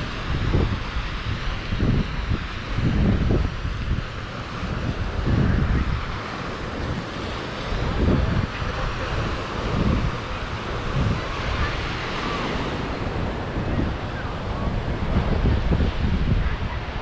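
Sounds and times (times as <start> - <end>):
sea surf washing ashore: 0.0 - 17.0
wind buffeting microphone: 0.0 - 17.0.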